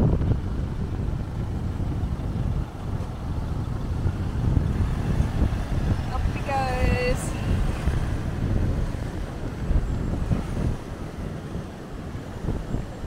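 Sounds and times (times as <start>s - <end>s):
vehicle engine rumbling: 0.0s - 13.0s
wind buffeting microphone: 0.0s - 13.0s.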